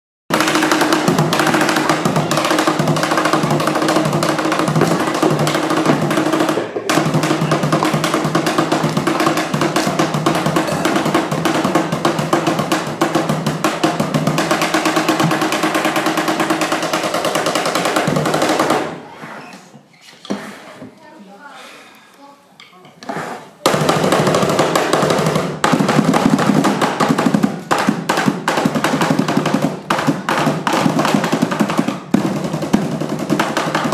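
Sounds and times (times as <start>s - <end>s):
percussion on plastic buckets: 0.3s - 19.1s, 22.6s - 33.9s.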